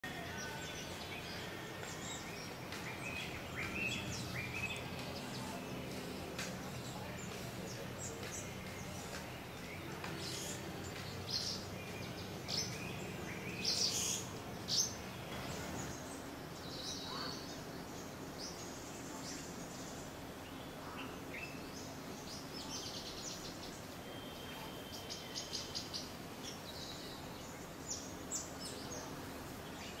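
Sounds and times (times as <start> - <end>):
birds chirping and trilling: 0.0 - 30.0.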